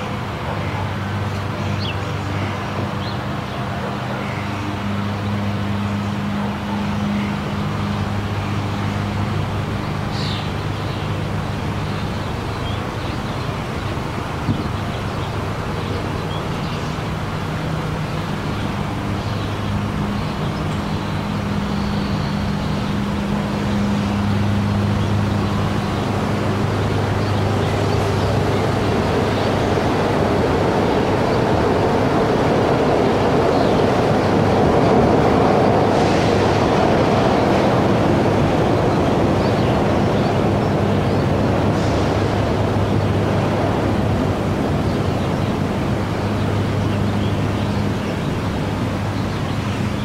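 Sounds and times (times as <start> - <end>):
monorail car running on rail: 0.0 - 50.0.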